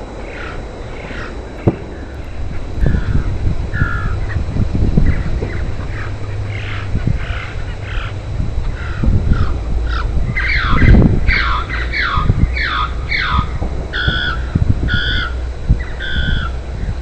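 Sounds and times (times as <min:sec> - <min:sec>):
steady low rumble: 0:00.0 - 0:17.0
bird calls: 0:00.2 - 0:17.0.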